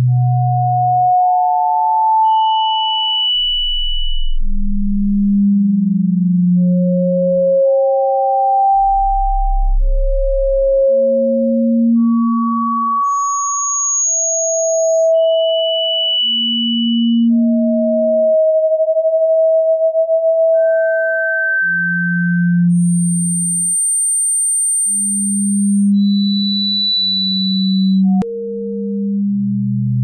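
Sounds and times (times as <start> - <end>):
higher sine tone changing pitch: 0.0 - 30.0
low sine tone: 0.0 - 30.0.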